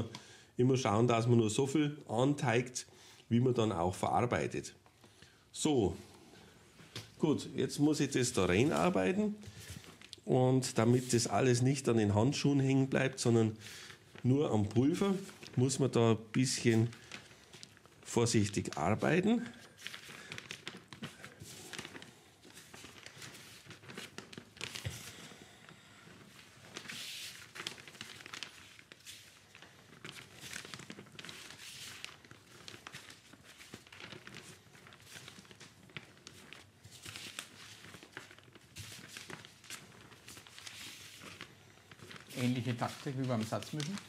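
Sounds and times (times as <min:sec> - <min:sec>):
plastic sheet crinkling: 0:03.4 - 0:44.0.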